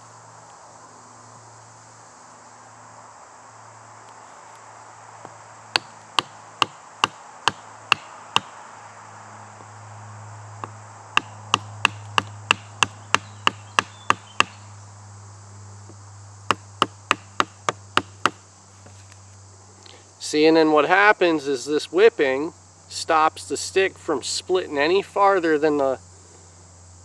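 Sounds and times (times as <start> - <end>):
insect buzz: 0.0 - 27.0.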